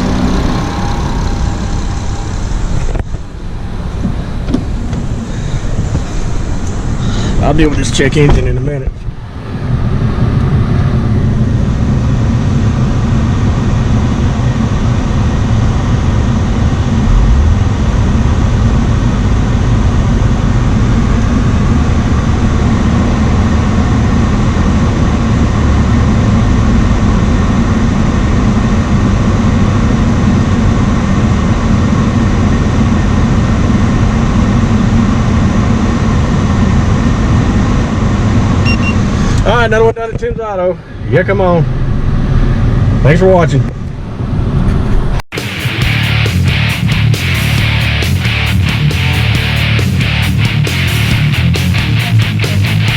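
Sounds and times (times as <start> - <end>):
car engine idling: 0.0 - 38.7, 45.3 - 52.9
cooling fans blowing: 0.0 - 52.9.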